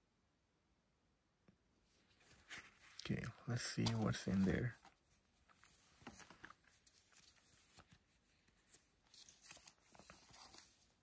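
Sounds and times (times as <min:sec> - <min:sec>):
rustling of knit fabric: 0:01.8 - 0:11.0
paper tag rustling: 0:01.9 - 0:11.0.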